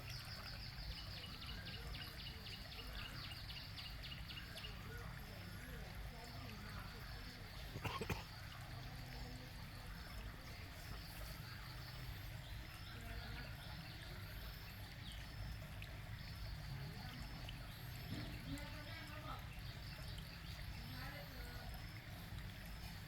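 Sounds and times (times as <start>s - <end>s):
water trickling and splashing: 0.0s - 23.0s.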